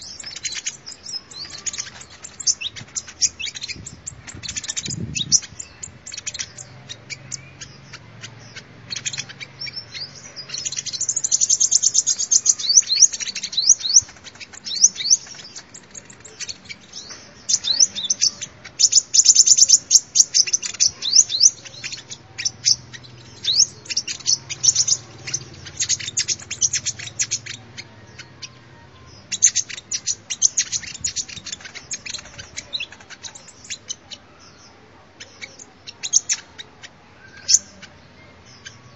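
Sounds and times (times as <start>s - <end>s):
sunbird chirps and trills: 0.0s - 38.9s.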